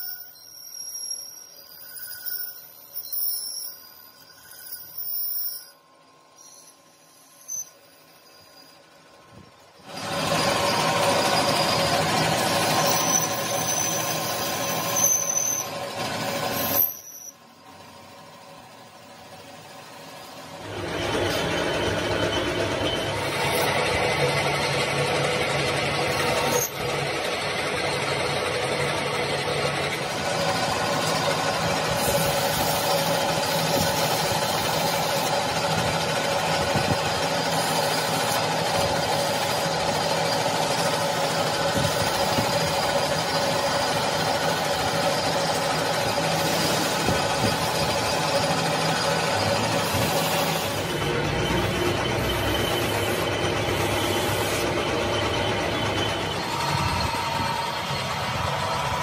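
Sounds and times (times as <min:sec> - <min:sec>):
metal lathe running: 0:07.9 - 0:59.0.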